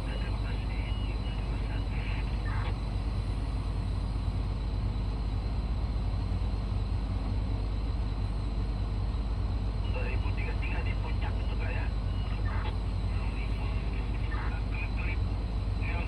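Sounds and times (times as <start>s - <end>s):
deep diesel engine drone: 0.0s - 16.0s.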